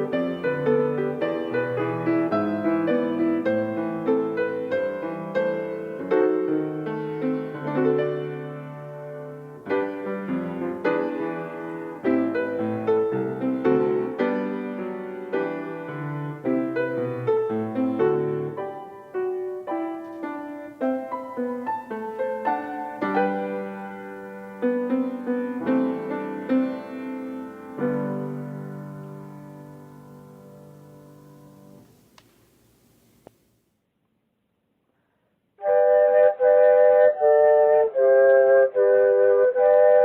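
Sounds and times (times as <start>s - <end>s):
slow solo piano chords: 0.0s - 32.2s.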